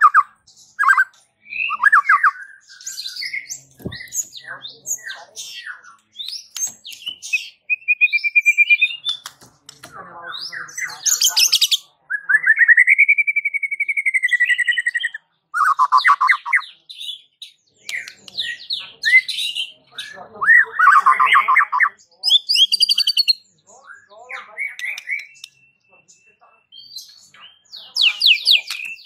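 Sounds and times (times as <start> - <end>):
songbird singing varied song: 0.0 - 29.0.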